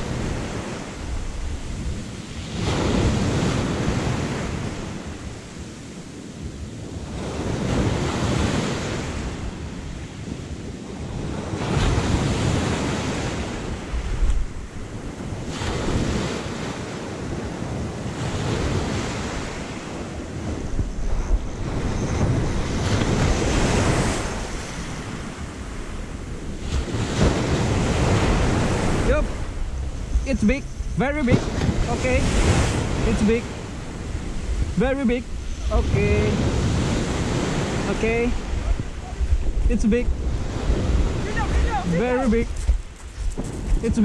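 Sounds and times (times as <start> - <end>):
sea waves washing onto shore: 0.0 - 44.0
wind buffeting microphone: 0.0 - 44.0.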